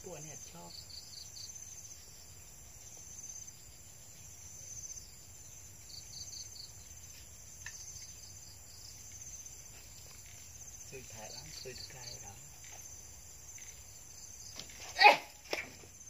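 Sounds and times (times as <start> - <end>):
crickets trilling: 0.0 - 16.0
night insects chorus: 0.0 - 16.0.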